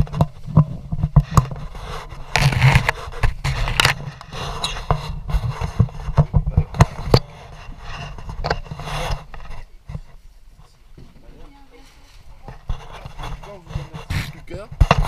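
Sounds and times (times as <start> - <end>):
cloth rubbing on microphone: 0.0 - 15.0.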